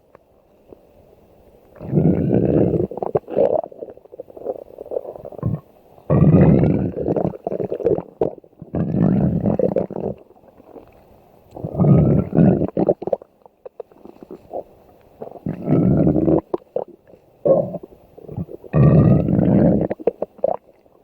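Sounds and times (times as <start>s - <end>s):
stomach growling: 1.7s - 21.0s.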